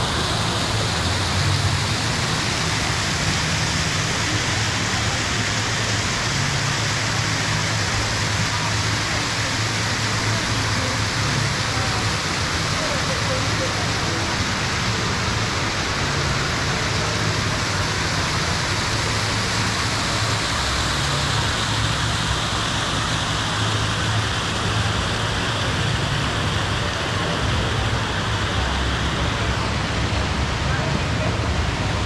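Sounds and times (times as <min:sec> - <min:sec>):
waterfall rushing and splashing: 0:00.0 - 0:32.0.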